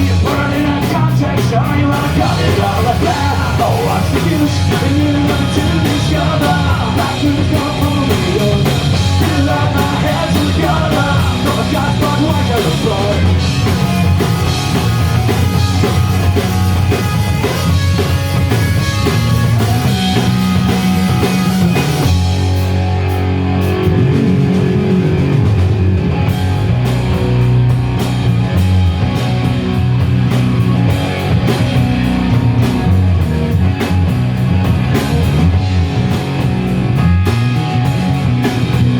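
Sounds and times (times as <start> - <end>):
bass guitar: 0.0 - 38.9
distorted electric guitars: 0.0 - 38.9
drum kit: 0.0 - 38.9.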